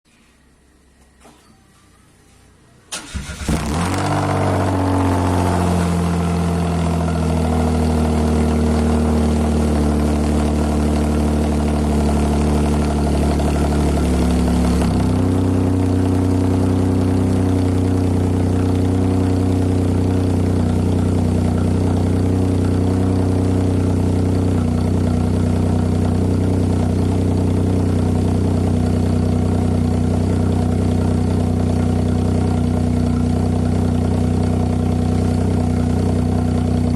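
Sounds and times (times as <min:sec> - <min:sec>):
car engine idling: 0:02.9 - 0:36.9.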